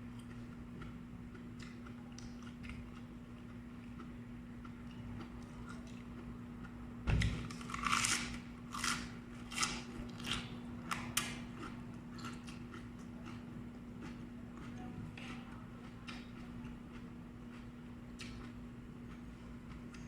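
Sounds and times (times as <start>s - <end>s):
crunchy chewing: 0.0s - 6.8s, 7.4s - 20.0s
faint steady hum: 0.0s - 20.0s.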